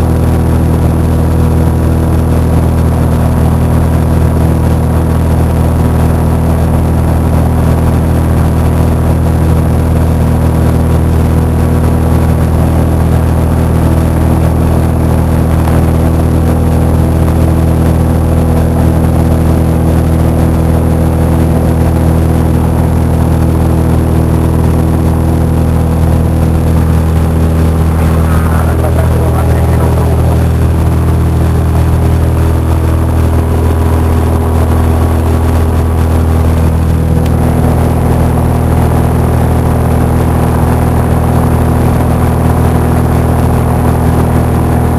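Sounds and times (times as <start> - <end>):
airplane engine and propeller droning: 0.0 - 44.9.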